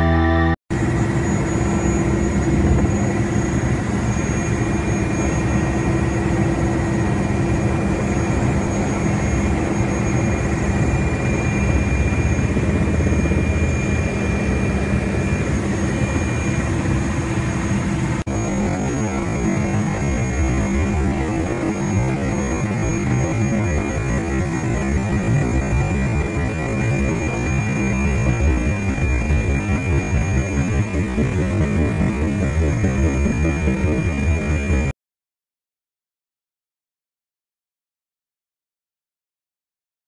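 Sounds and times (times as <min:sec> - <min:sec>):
helicopter engine and rotor drone: 0:00.0 - 0:34.9
high steady whine: 0:00.0 - 0:34.9.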